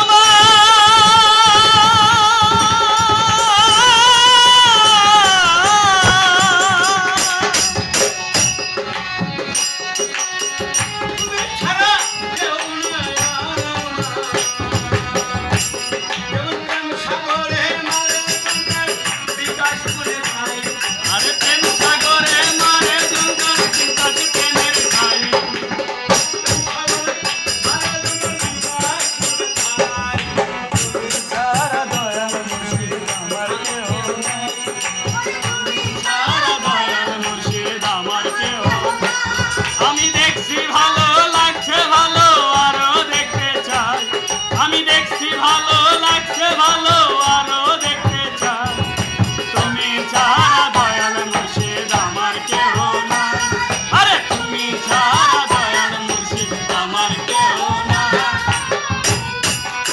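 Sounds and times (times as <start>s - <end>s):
man singing: 0.0s - 9.5s, 10.7s - 59.9s
other voices singing: 0.0s - 9.7s, 10.9s - 59.9s
harmonium: 0.0s - 59.9s
rattling percussion beat: 0.0s - 59.9s.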